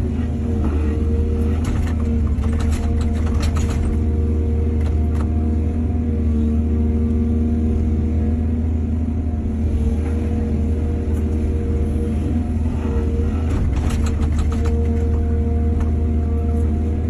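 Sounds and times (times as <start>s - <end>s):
excavator engine rumbling: 0.0s - 17.0s.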